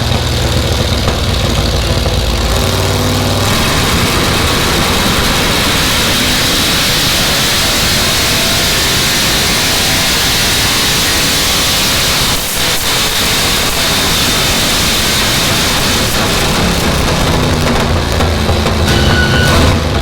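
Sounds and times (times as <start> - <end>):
engine roaring under load: 0.0 - 20.0.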